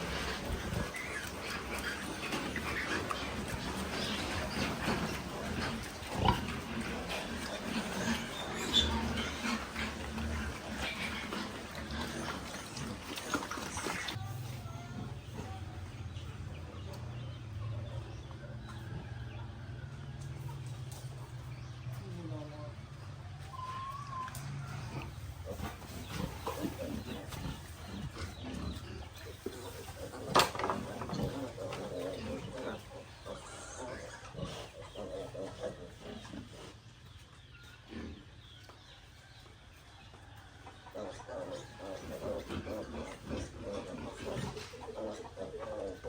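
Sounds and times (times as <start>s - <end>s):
chickens clucking: 0.0s - 46.0s
farm animals calling: 0.0s - 46.0s.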